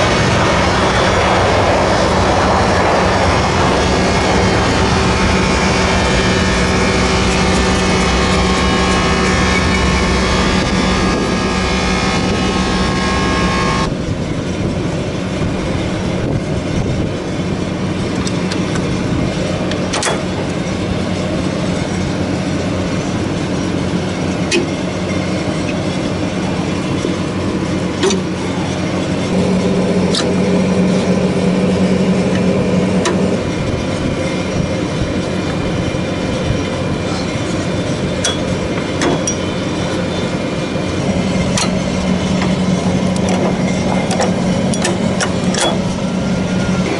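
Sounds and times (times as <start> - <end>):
low mechanical hum: 0.0 - 46.9.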